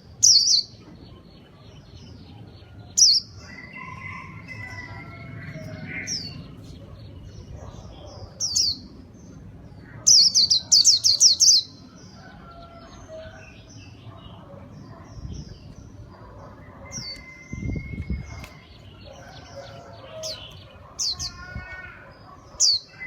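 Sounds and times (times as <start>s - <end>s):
bird chirping: 0.1s - 23.0s.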